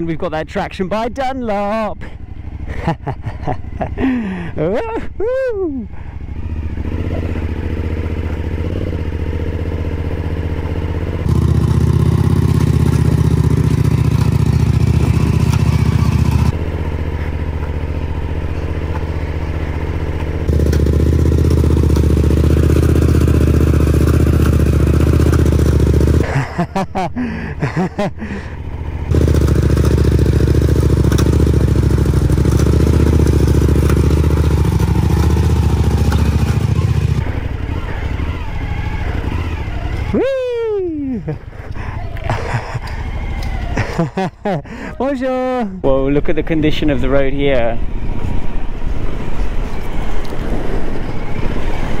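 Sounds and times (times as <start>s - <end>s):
motorcycle engine revving high: 1.1s - 46.0s.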